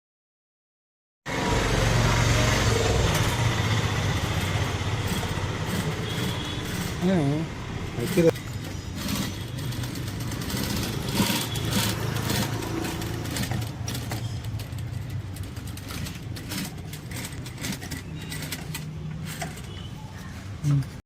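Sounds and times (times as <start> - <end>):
sewing machine motor hum: 1.3 - 20.0.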